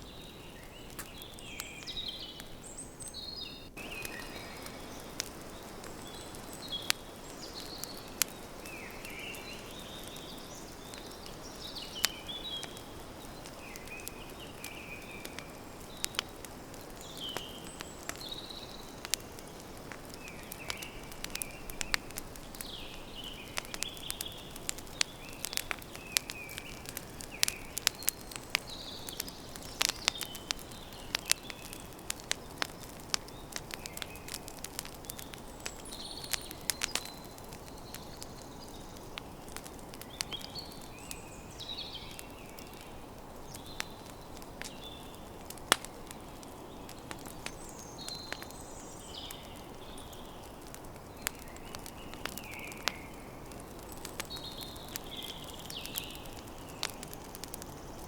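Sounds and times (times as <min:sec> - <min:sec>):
campfire crackling: 0:00.0 - 0:58.0
small birds chirping: 0:00.0 - 0:58.0.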